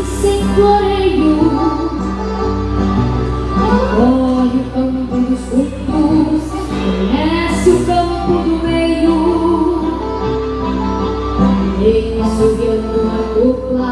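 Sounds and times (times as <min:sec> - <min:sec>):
guitar: 0:00.0 - 0:13.9
piano accordion: 0:00.0 - 0:13.9.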